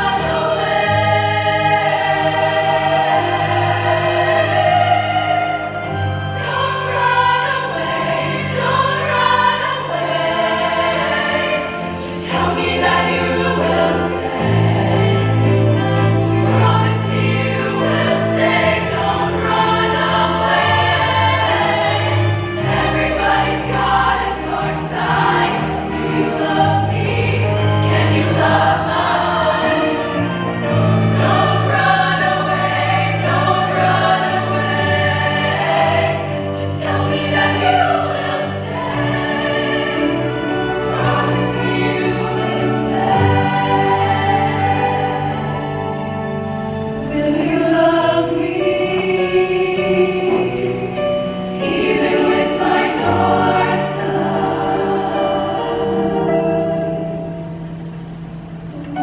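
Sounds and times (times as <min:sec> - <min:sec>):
women's choir singing in harmony: 0:00.0 - 0:59.0.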